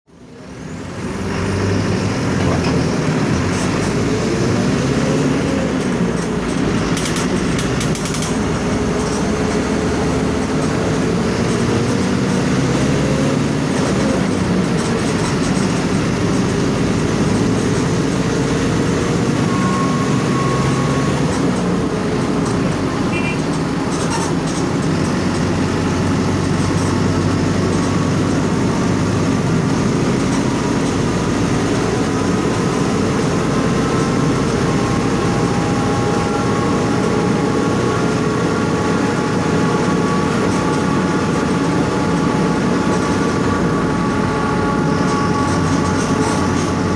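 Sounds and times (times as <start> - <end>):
bus diesel engine running: 0.1 - 46.9.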